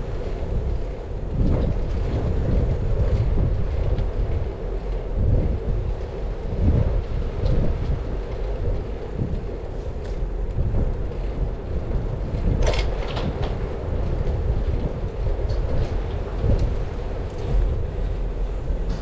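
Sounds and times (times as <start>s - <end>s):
bicycle rolling rumble: 0.0s - 19.0s.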